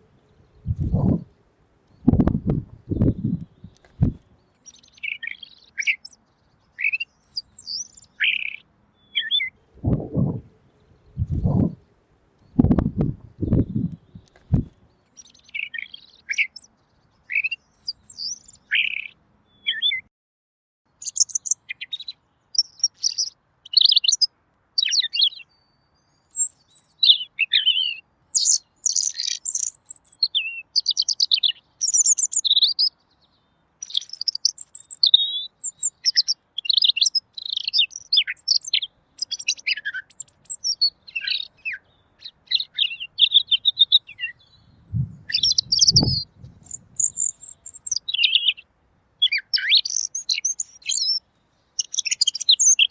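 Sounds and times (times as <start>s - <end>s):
bird singing warbled phrases: 0.0s - 20.1s, 20.9s - 52.9s.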